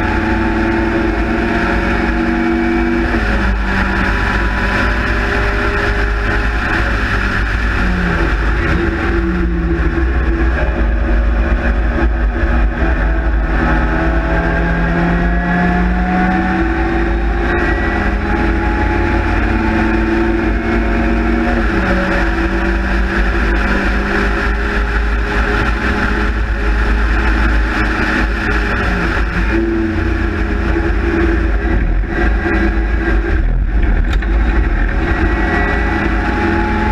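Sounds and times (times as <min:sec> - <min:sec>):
race car engine revving: 0:00.0 - 0:36.9
wind rumbling on microphone: 0:00.0 - 0:36.9.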